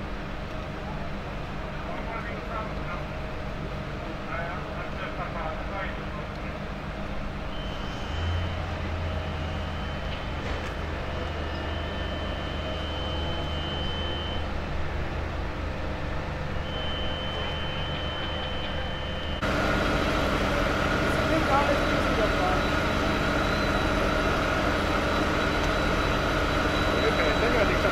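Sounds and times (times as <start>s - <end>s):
large vehicle engine drone: 0.0s - 27.9s.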